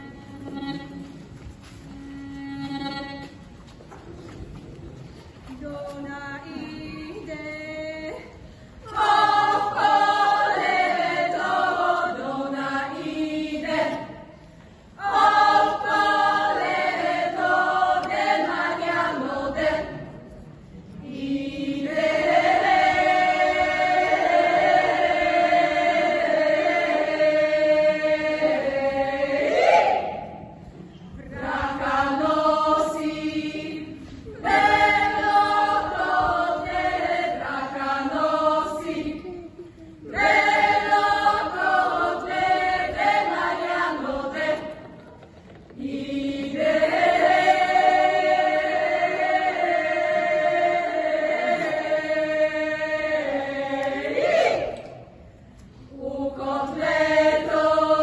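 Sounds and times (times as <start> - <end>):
women's choir singing a cappella: 5.5 - 58.0.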